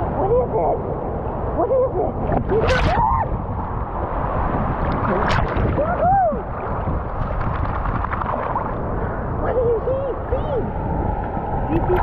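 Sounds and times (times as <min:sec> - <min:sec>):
moving water: 0:00.0 - 0:12.0
wind on microphone: 0:00.0 - 0:12.0.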